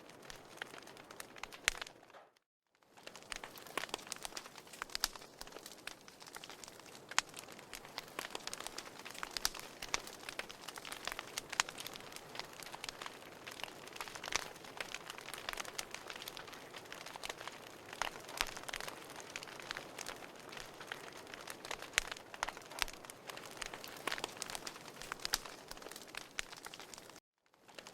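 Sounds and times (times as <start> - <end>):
wood crackling and popping: 0.0 - 27.9.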